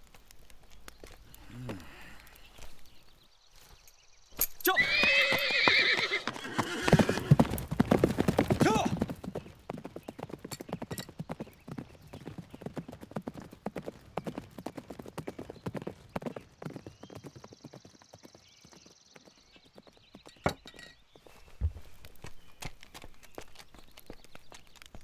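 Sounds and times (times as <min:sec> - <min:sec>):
horse hooves clip-clopping on dirt: 0:00.0 - 0:25.0.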